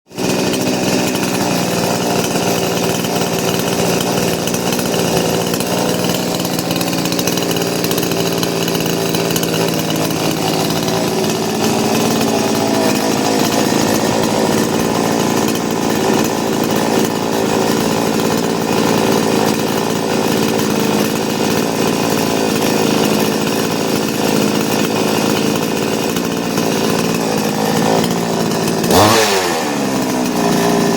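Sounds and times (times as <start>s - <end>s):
chainsaw engine running: 0.1s - 30.9s.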